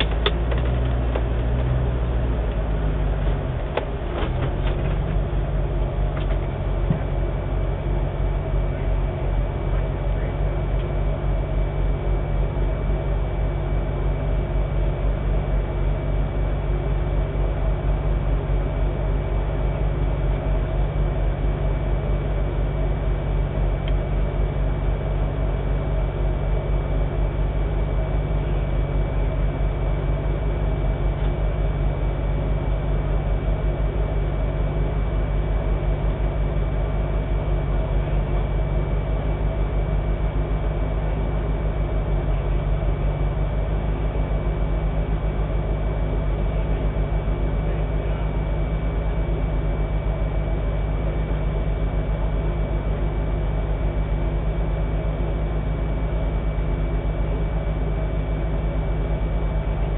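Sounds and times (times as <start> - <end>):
engine idling from inside cab: 0.0 - 59.9.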